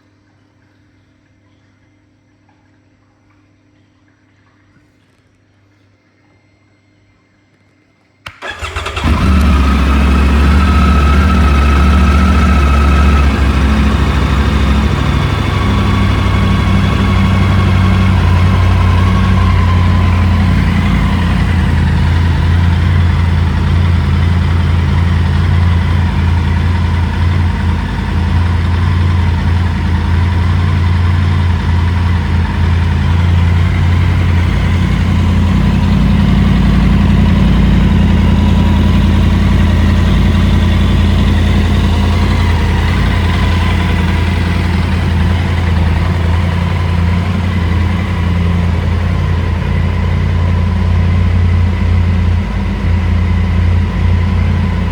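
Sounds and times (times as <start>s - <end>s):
motorcycle engine starting and idling: 8.2s - 54.9s.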